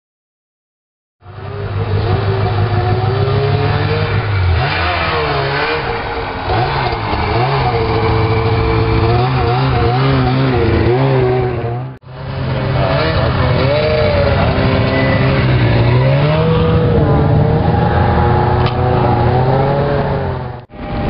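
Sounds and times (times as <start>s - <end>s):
snowmobile engine revving: 1.2s - 21.0s.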